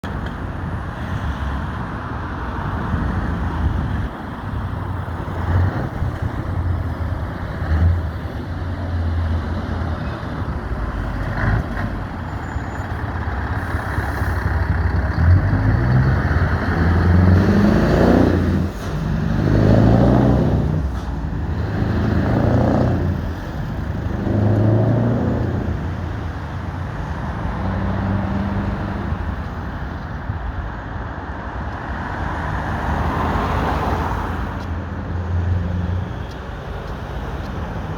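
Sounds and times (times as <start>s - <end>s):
heavy truck engines rumbling: 0.0s - 37.9s.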